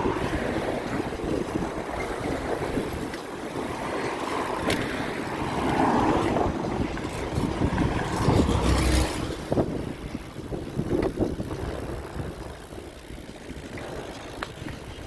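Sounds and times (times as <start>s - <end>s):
road noise: 0.0s - 15.0s
wind on microphone: 0.0s - 15.0s.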